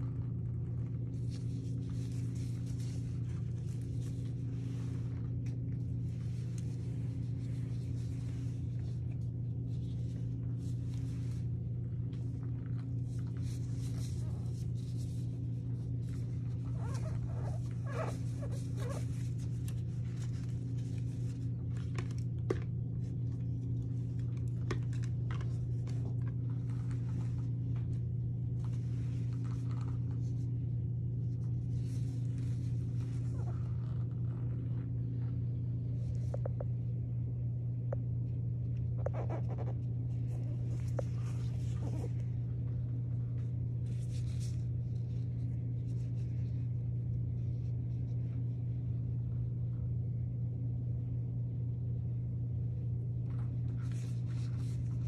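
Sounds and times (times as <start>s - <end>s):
brushing and rustling on hair: 0.0s - 22.0s, 25.1s - 36.6s, 39.2s - 48.7s, 53.2s - 55.0s
steady low hum: 0.0s - 55.0s.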